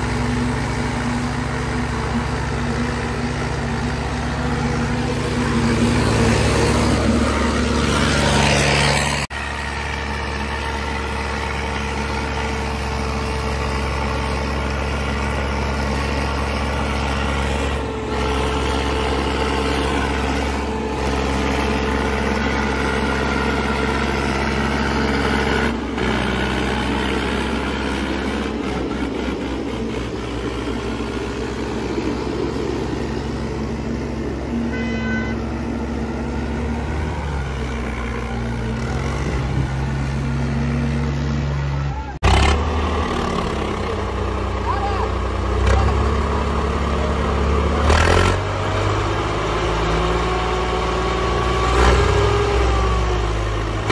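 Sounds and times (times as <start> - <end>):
tractor engines under heavy load: 0.0 - 53.9.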